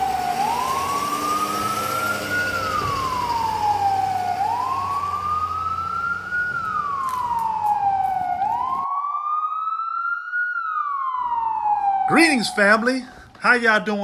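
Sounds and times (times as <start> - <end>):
siren wailing: 0.0 - 13.3.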